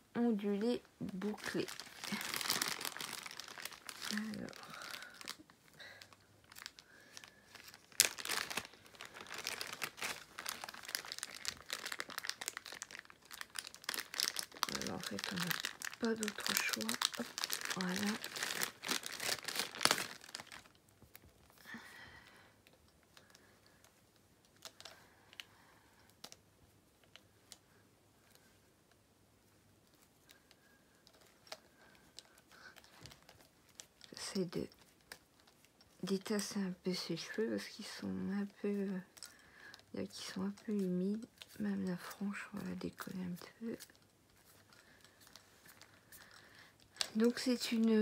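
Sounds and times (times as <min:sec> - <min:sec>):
plastic bag crinkling: 0:00.2 - 0:22.0, 0:29.8 - 0:48.0.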